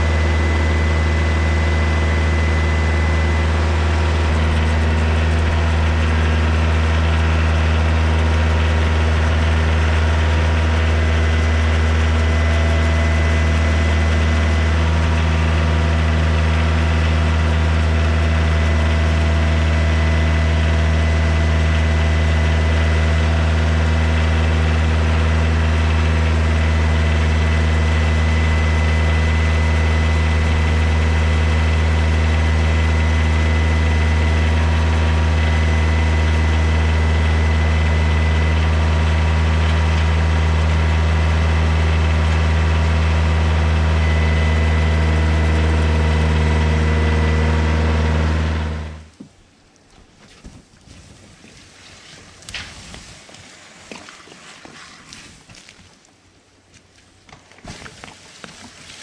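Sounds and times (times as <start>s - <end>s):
tractor diesel engine idling: 0.0s - 49.2s.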